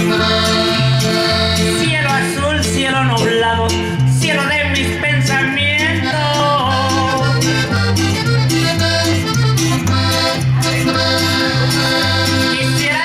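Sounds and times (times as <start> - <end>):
button accordion melody: 0.0 - 2.8, 5.0 - 13.0
bass line: 0.0 - 13.0
percussion beat: 0.0 - 13.0.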